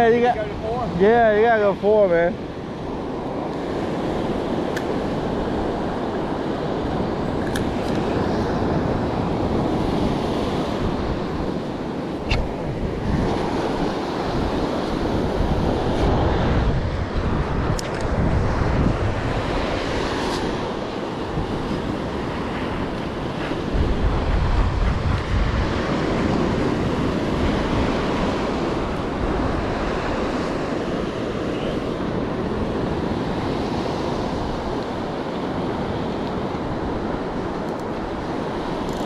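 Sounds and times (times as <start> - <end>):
surf washing onto beach: 0.0 - 39.0
wind buffeting microphone: 0.0 - 39.0.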